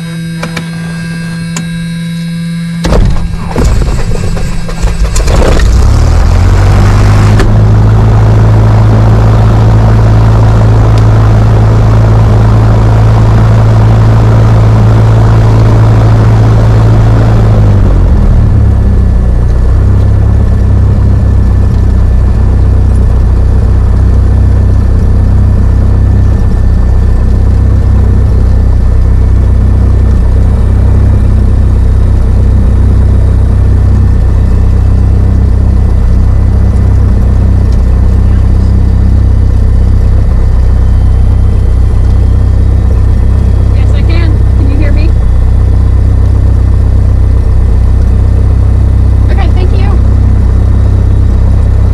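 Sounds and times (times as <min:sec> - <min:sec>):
propeller plane engine running: 0:00.0 - 0:51.9.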